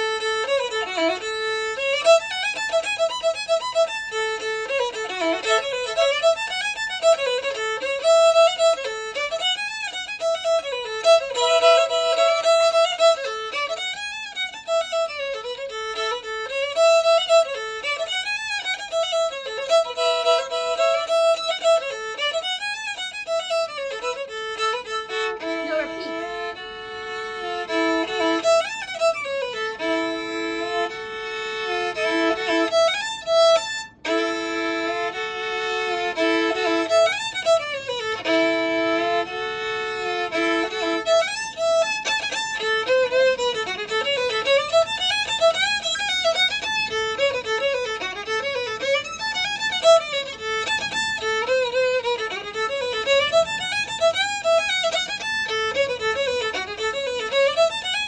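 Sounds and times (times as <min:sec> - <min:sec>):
solo violin playing: 0:00.0 - 0:58.0.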